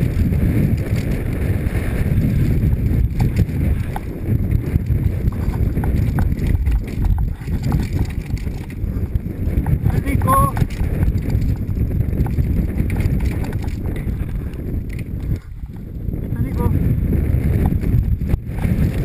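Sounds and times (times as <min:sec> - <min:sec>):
bike rattling over bumps: 0:00.0 - 0:19.0
wind and tyre rumble: 0:00.0 - 0:19.0.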